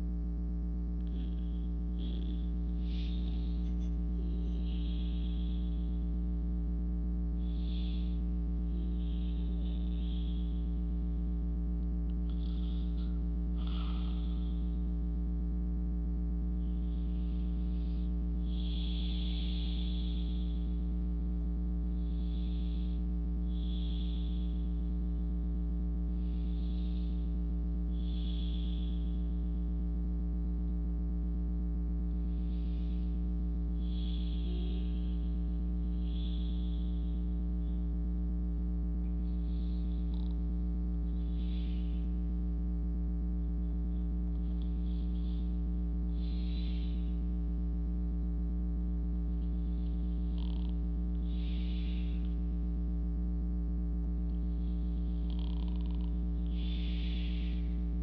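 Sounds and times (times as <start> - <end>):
loud steady electrical hum: 0.0 - 58.0
soft slow breathing: 1.0 - 31.0, 31.6 - 58.0.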